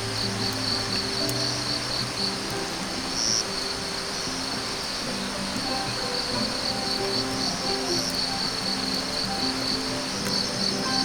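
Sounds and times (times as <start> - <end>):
insects chirping in pulses: 0.0 - 11.0
steady hiss: 0.0 - 11.0.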